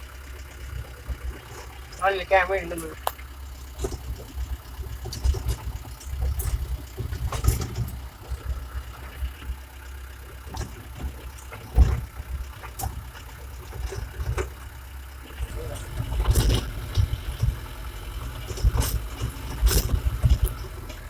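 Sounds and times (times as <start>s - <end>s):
engine knocks and rattles: 0.0s - 21.0s
vehicle engine low rumble: 0.0s - 21.0s.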